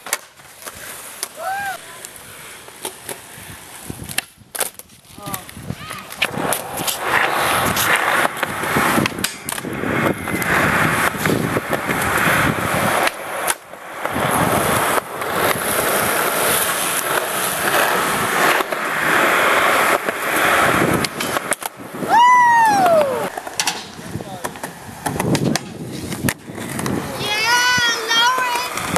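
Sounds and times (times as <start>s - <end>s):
skateboard popping and landing: 0.0s - 22.1s, 22.7s - 28.9s
skateboard wheels rolling on concrete: 0.0s - 28.9s.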